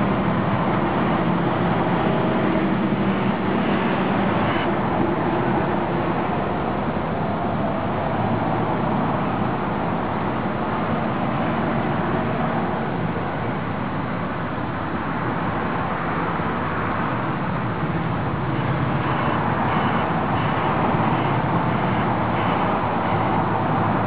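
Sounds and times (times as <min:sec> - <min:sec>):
heavy engines running: 0:00.0 - 0:24.0.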